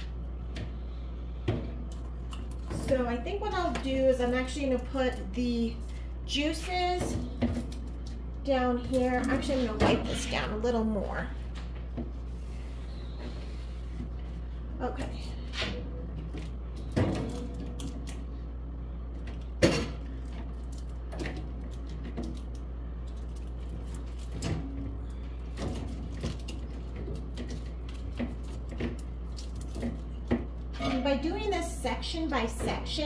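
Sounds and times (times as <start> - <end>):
refrigerator hum: 0.0 - 33.0
items clattering on wire shelves: 1.5 - 12.0, 14.8 - 18.4, 19.2 - 33.0.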